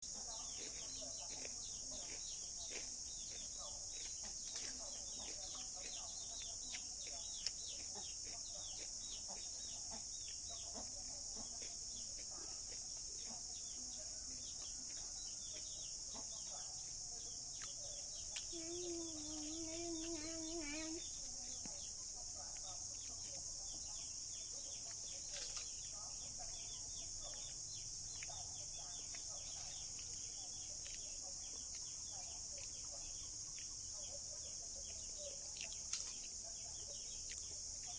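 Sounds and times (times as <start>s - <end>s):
insect drone: 0.0s - 37.9s.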